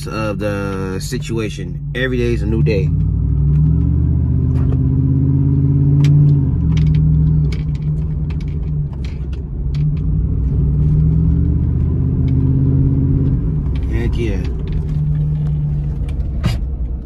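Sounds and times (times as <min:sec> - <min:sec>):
truck exhaust droning: 0:00.0 - 0:17.0.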